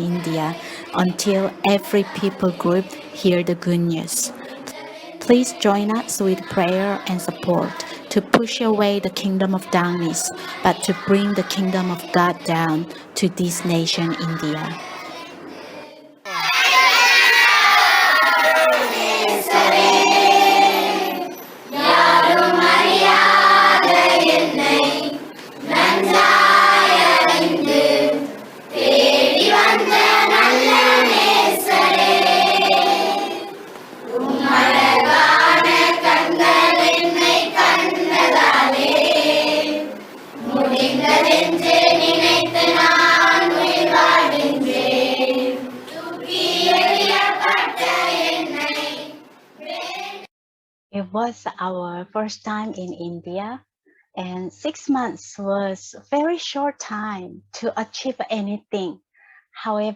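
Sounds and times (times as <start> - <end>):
children singing in chorus: 0.0 - 8.4, 9.4 - 50.3.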